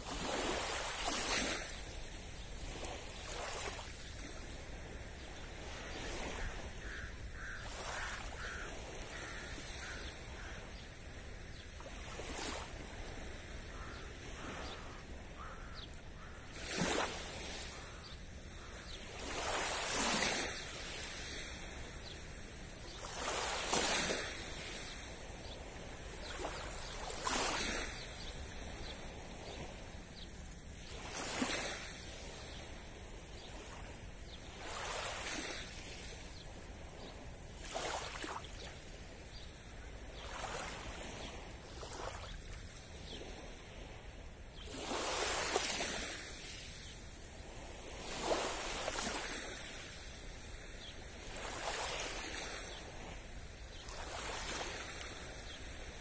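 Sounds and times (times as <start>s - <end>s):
small waves lapping on beach: 0.0s - 56.0s.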